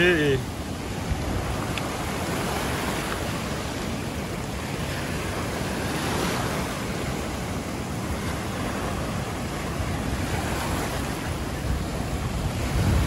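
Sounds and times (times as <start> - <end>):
river waves breaking: 0.0 - 13.0
wind buffeting microphone: 0.0 - 13.0.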